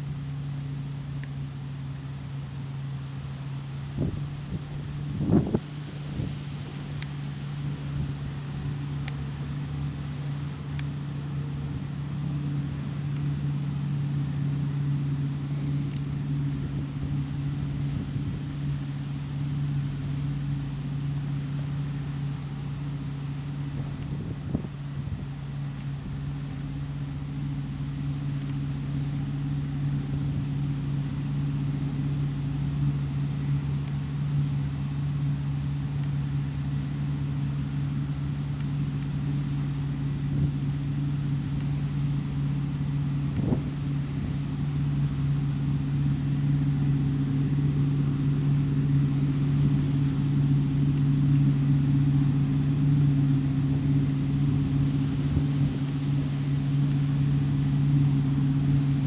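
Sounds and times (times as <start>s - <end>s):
diesel engine drone: 0.0s - 59.0s.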